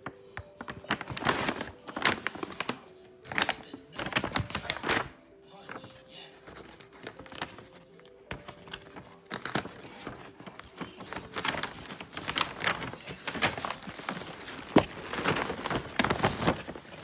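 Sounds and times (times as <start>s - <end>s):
paper mailer crinkling: 0.0s - 17.0s.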